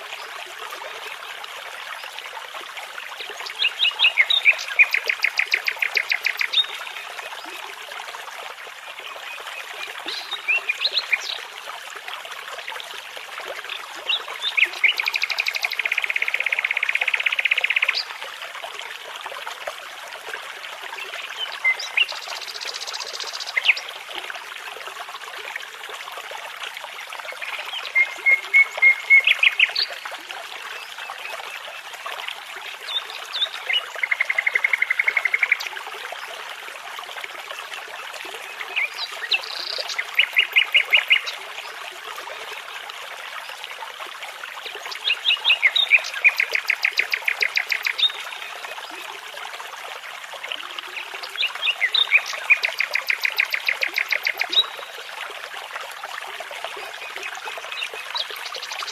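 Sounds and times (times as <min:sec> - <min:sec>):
babbling brook: 0:00.0 - 0:58.9.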